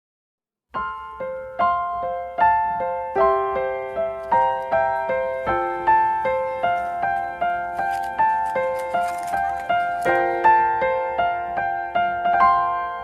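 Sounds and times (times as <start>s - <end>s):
keyboard melody: 0.8s - 13.0s.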